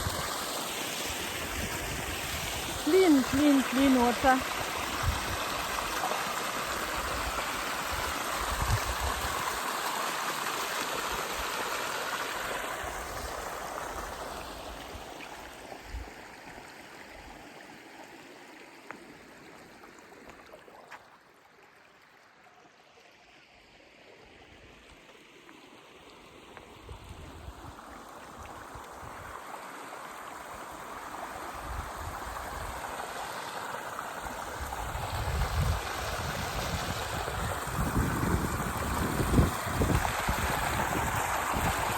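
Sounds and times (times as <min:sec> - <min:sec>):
stream running over rocks: 0:00.0 - 0:41.9.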